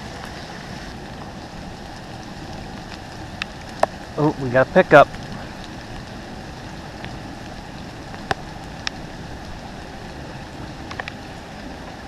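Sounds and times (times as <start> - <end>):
steady outdoor hiss: 0.0 - 12.0
faint ticks: 1.0 - 4.1, 5.1 - 12.0.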